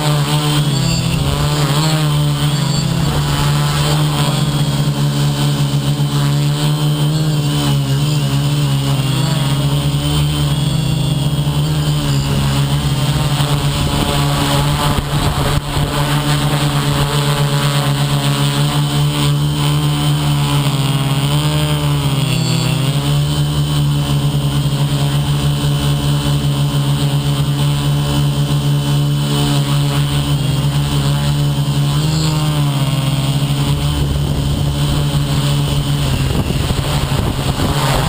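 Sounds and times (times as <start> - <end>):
model aircraft propellers humming: 0.0 - 38.0.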